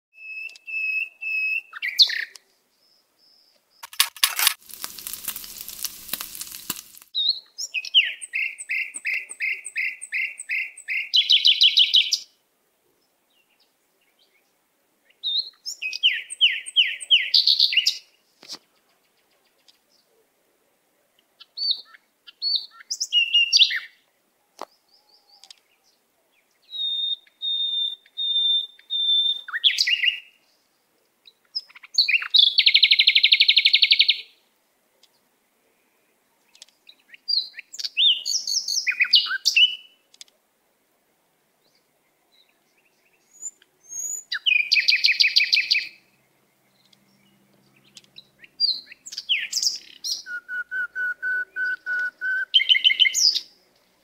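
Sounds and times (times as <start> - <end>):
songbird chirping and trilling: 0.2 - 3.9, 4.6 - 40.3, 41.6 - 54.0.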